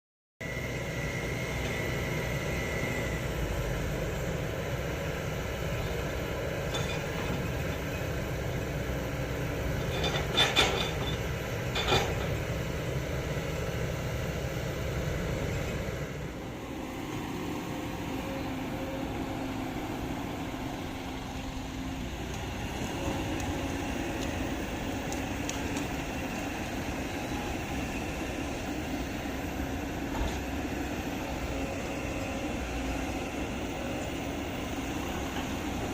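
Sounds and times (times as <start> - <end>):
excavator diesel engine running: 0.4 - 35.9.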